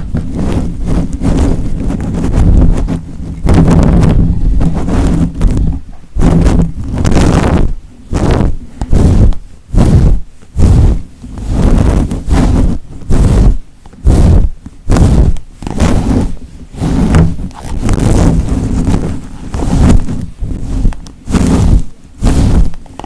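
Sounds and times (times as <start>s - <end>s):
rubbing strokes close to microphone: 0.0s - 23.0s.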